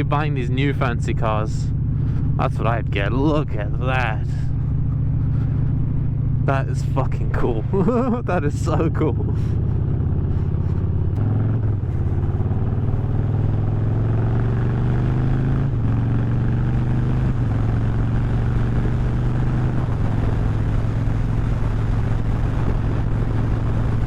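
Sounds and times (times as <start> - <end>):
motorcycle engine and exhaust: 0.0 - 24.0.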